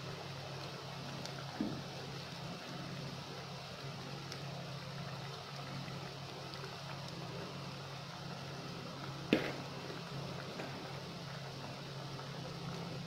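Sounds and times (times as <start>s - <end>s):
deep-frying sizzle and bubbling: 0.0s - 13.0s
low steady hum: 0.0s - 13.0s.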